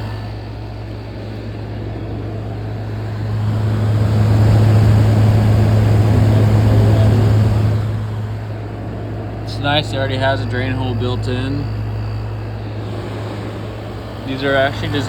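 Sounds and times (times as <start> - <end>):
compressor low hum: 0.0 - 15.0
condenser fan rushing: 0.0 - 15.0.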